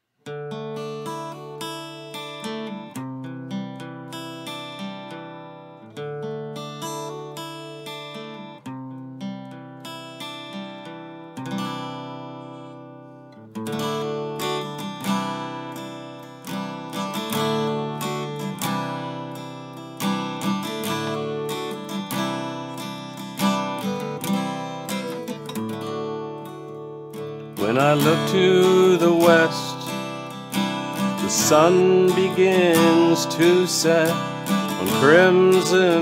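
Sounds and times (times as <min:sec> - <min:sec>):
acoustic guitar strumming: 0:00.2 - 0:36.0.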